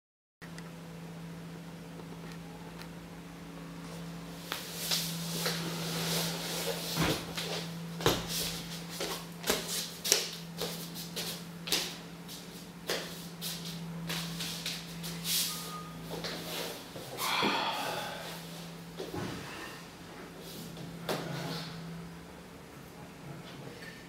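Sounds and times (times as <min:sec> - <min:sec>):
steady low hum: 0:00.4 - 0:24.0.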